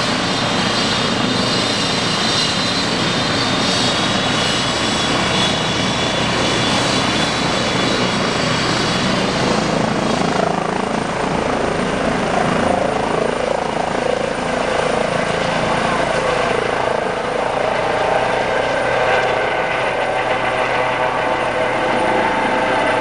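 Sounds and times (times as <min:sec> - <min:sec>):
helicopter engines and rotor: 0:00.0 - 0:23.0.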